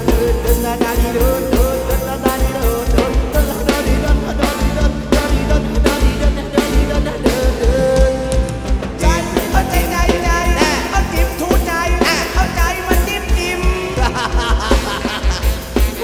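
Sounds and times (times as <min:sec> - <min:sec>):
bass drum beat: 0:00.0 - 0:16.0
dance band playing: 0:00.0 - 0:16.0.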